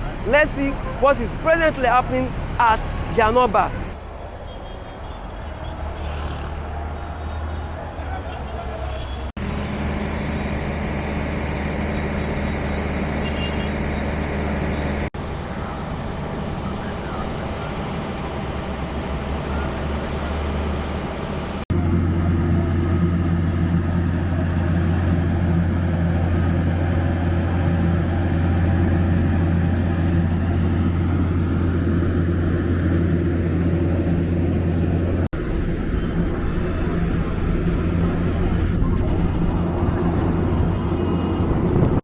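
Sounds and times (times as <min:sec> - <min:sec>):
busy road traffic: 0:00.0 - 0:42.0.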